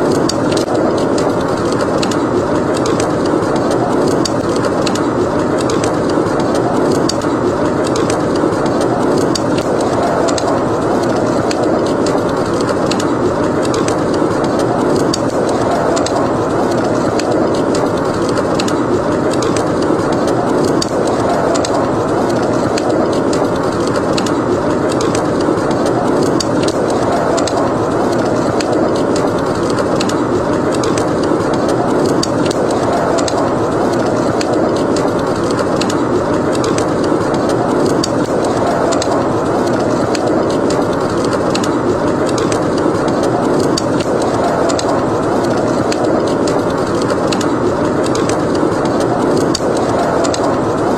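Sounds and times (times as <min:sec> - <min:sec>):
howling snowstorm wind: 0:00.0 - 0:50.9
wood fire crackling: 0:00.0 - 0:50.9.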